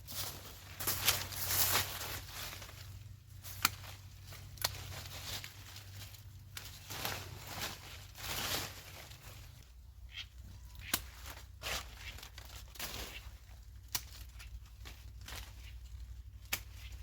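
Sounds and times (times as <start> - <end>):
leafy rustling: 0.0 - 17.0
branches snapping: 0.1 - 9.6, 10.8 - 17.0.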